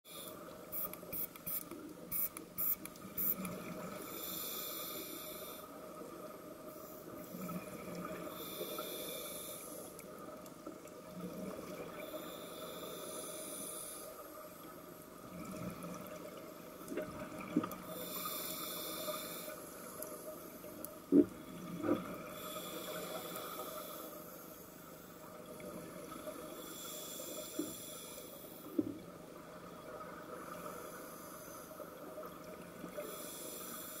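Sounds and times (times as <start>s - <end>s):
steady underwater hum: 0.1s - 34.0s.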